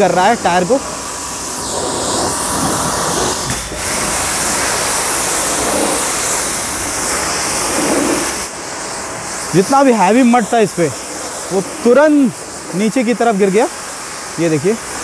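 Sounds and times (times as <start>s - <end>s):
pressure washer water jet spraying: 0.0s - 15.0s.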